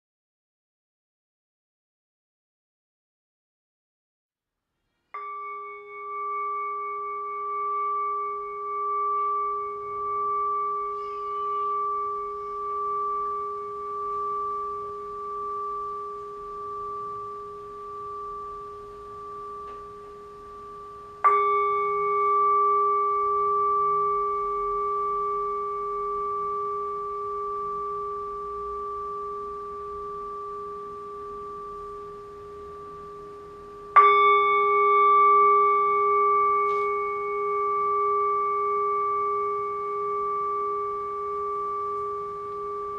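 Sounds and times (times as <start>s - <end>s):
singing bowl ringing: 5.1s - 42.9s.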